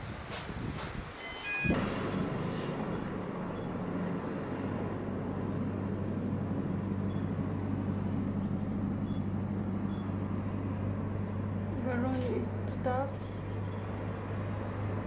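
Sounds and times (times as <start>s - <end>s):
gondola cabin hum and rumble: 0.0s - 15.0s.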